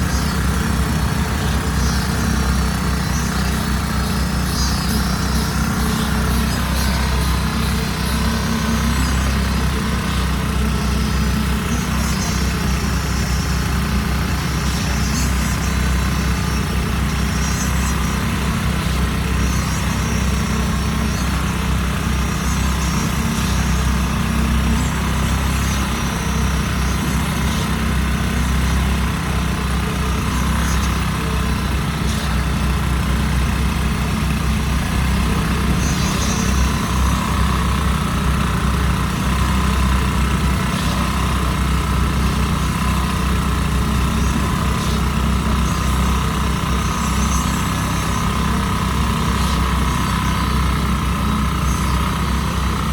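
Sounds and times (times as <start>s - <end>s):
engine running with deep hum: 0.0s - 52.9s.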